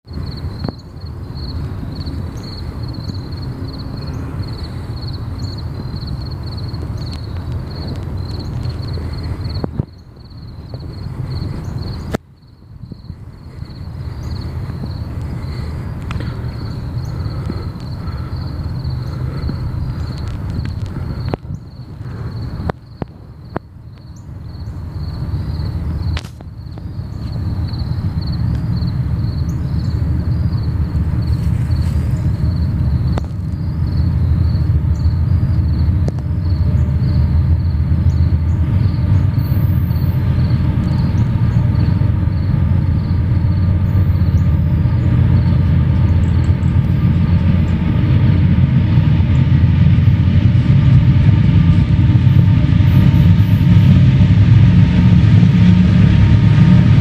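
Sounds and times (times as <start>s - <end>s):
train rumbling past: 0.1s - 57.0s.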